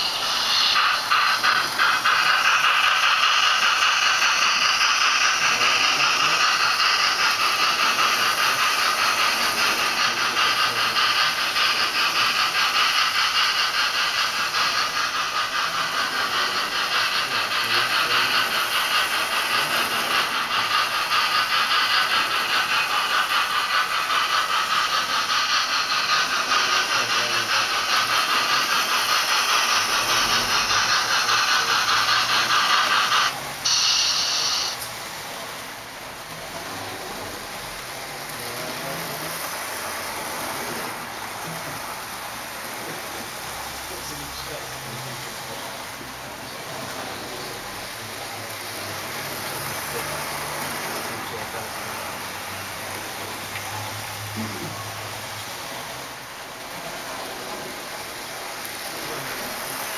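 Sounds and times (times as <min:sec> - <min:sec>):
model trains whirring rattle: 0:00.0 - 0:59.9.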